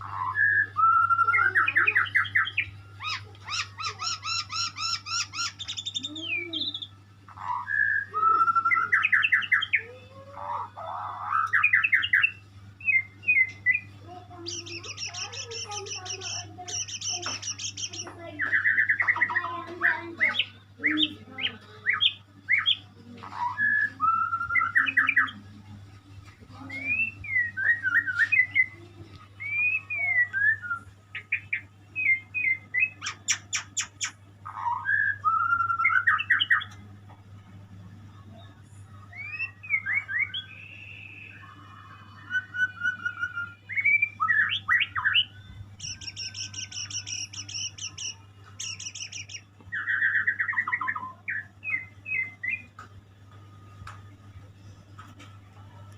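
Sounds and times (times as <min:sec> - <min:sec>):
songbird singing: 0:00.0 - 0:25.6, 0:26.5 - 0:36.9, 0:38.0 - 0:52.9
steady low hum: 0:00.0 - 0:55.9.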